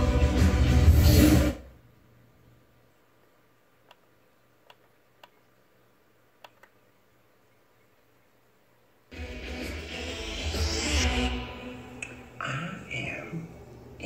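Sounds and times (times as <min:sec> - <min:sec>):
faint low hum: 0:01.5 - 0:14.0.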